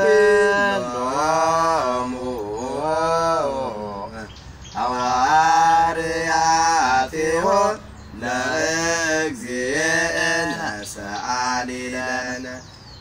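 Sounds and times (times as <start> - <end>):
men singing unaccompanied chant: 0.0 - 13.0.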